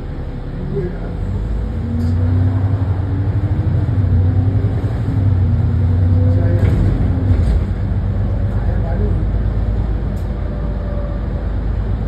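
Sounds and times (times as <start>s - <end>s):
bus diesel engine whining hum: 0.0s - 12.0s.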